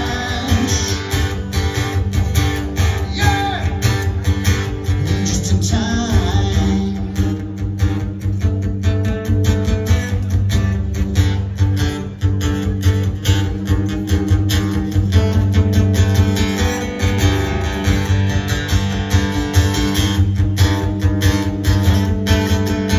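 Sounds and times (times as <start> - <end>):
acoustic guitar strumming: 0.0 - 22.9.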